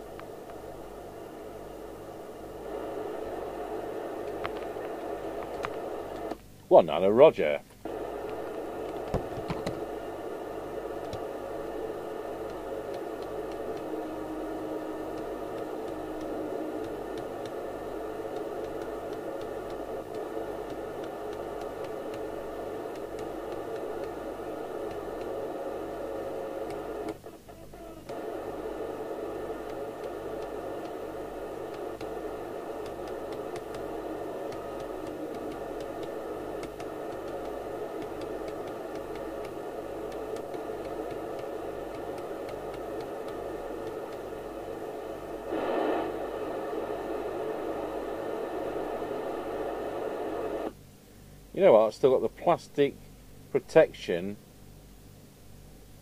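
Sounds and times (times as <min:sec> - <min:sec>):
radio receiver hiss: 0:00.0 - 0:54.4.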